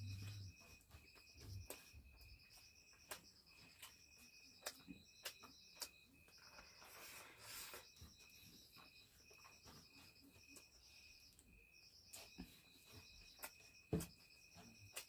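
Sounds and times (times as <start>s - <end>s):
faint high-pitched chirping: 0.0s - 15.0s.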